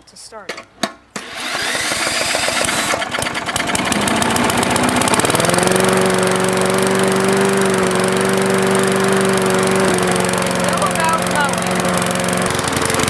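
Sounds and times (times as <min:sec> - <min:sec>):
cordless drill spinning: 0:01.2 - 0:13.0
lawnmower engine running: 0:01.2 - 0:13.0.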